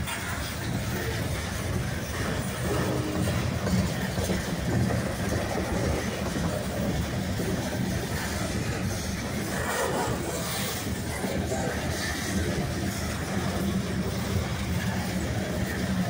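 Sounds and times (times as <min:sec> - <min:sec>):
freight train wheels on rails: 0:00.0 - 0:16.0.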